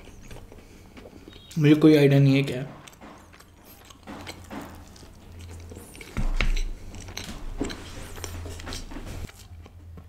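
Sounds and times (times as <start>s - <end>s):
person chewing pizza: 0.0s - 1.6s, 2.7s - 10.0s.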